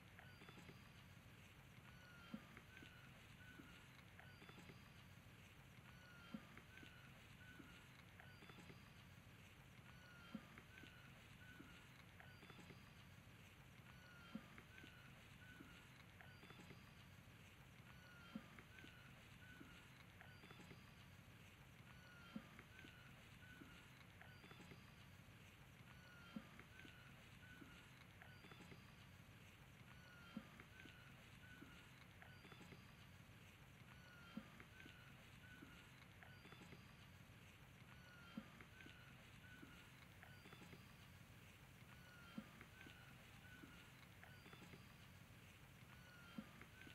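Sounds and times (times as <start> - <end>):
faint chirps: 0.0 - 46.9.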